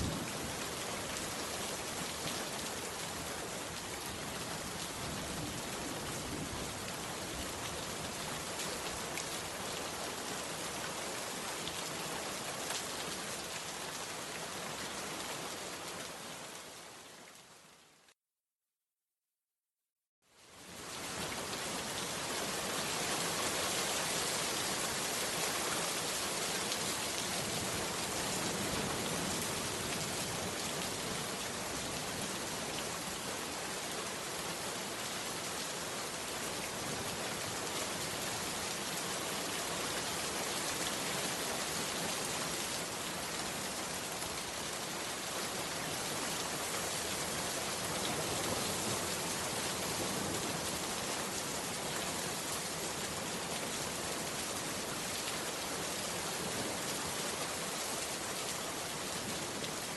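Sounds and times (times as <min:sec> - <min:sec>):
heavy rain: 0:00.0 - 0:18.1, 0:20.3 - 0:59.9.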